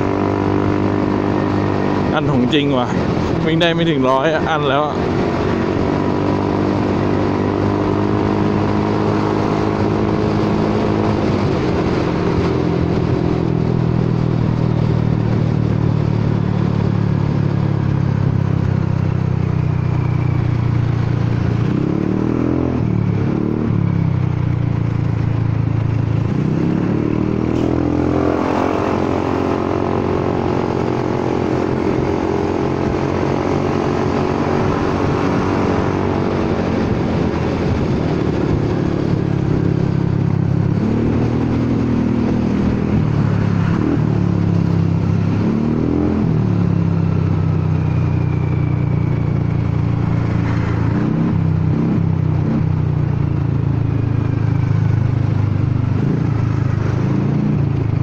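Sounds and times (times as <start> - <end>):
scooter engine cruising: 0.0 - 58.0.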